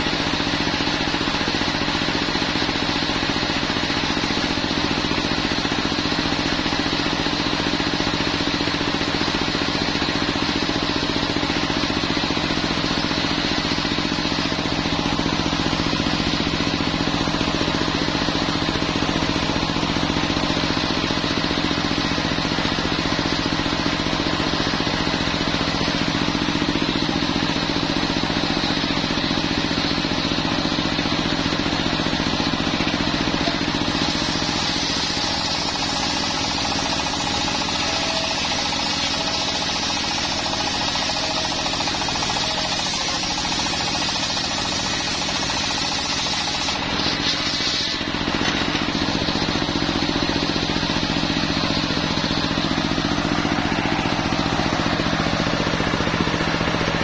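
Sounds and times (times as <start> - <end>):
diesel engine running: 0.0 - 57.0
circular saw blade spinning: 4.8 - 56.9.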